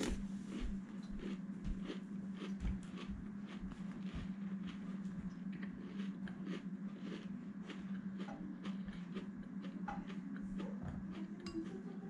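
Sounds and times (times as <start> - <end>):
cereal crunching while chewing: 0.0 - 11.3
low hum: 0.0 - 12.0.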